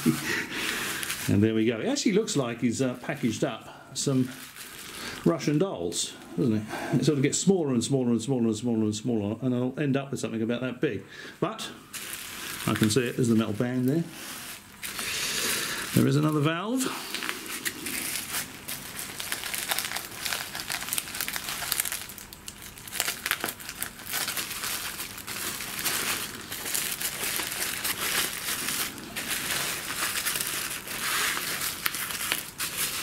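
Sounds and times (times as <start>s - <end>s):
bubble wrap crinkling: 0.0s - 5.6s, 11.9s - 33.0s.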